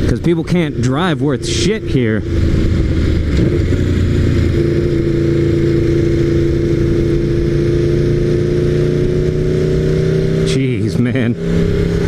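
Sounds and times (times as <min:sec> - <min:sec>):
motorcycle engine at part-throttle: 0:00.0 - 0:12.0.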